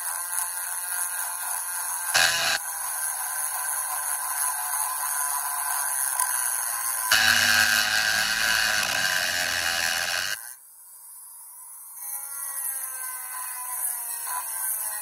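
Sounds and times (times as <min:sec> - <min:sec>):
rotary grinder grinding metal: 0:00.0 - 0:10.6, 0:12.0 - 0:15.0.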